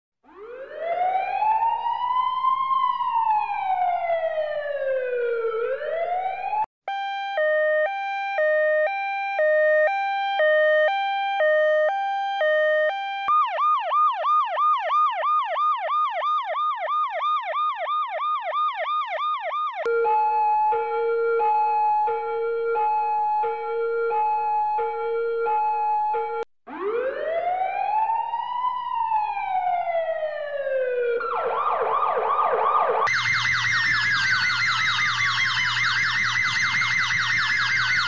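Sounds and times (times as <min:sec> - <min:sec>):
police car two-tone siren: 0:00.2 - 0:38.0
wailing siren: 0:00.2 - 0:38.0
fast yelping siren: 0:00.3 - 0:38.0.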